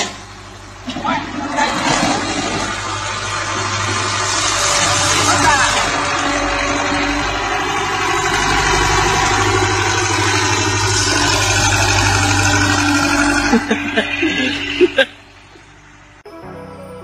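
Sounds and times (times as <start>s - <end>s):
heavy machine engine running: 0.0s - 16.3s.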